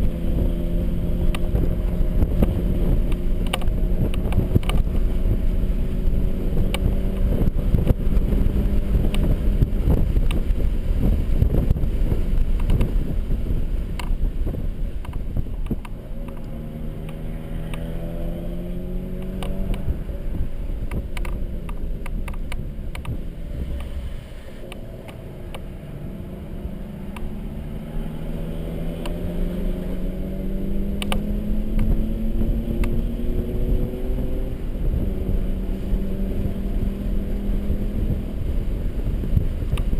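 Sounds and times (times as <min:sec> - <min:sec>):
car engine revving: 0:00.0 - 0:39.9
road and tyre noise: 0:00.0 - 0:39.9.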